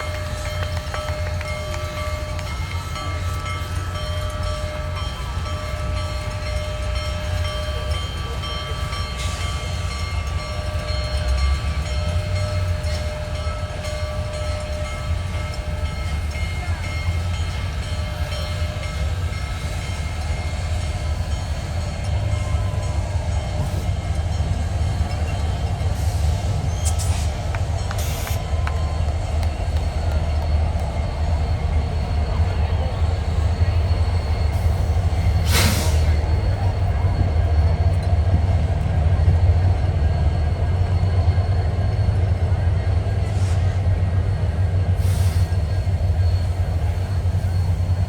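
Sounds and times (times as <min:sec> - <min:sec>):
steam locomotive rumble: 0:00.0 - 0:48.0.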